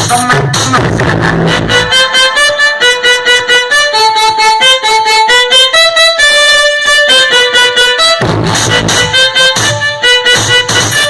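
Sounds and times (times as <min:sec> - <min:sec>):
bass beat: 0:00.0 - 0:11.0
funk song instrumental break: 0:00.0 - 0:11.0
lead melody of short notes: 0:00.0 - 0:11.0.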